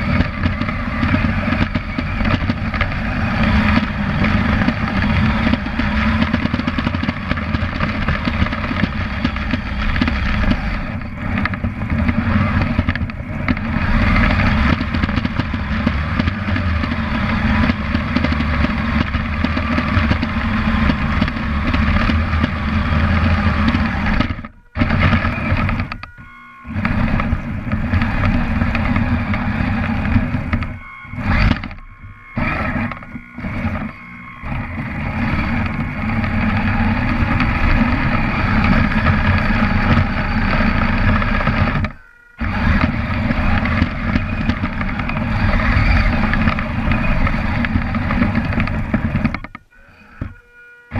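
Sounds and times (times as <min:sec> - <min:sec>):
electric motor and gearbox: 0:00.0 - 0:50.9
plow pushing snow: 0:00.0 - 0:50.9.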